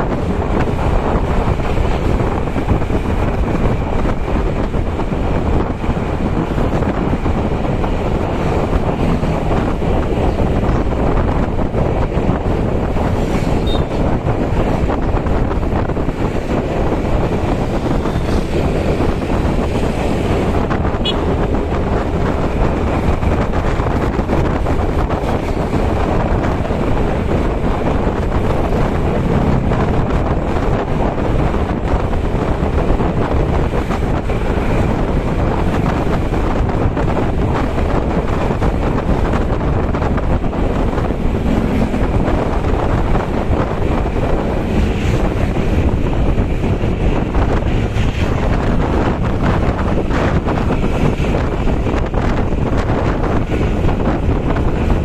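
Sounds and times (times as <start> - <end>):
vehicle rumble and road noise: 0.0 - 55.0
wind buffeting microphone: 0.0 - 55.0.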